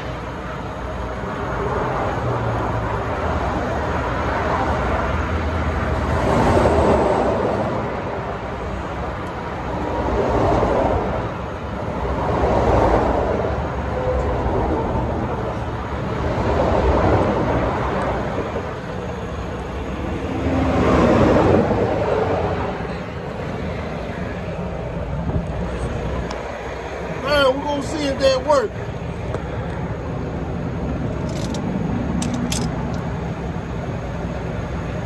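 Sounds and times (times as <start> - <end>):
low traffic rumble: 0.0 - 35.0
vehicles passing by: 0.0 - 35.0.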